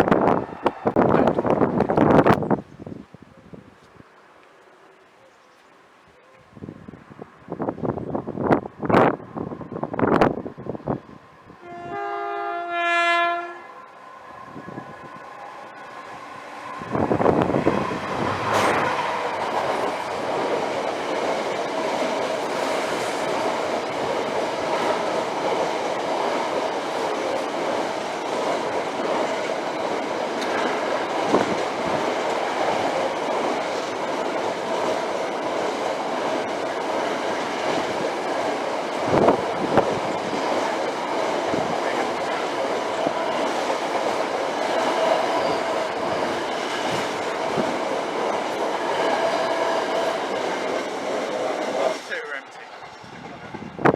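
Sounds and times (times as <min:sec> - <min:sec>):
train wheels rolling on rails: 0:00.0 - 0:02.9, 0:06.4 - 0:53.9.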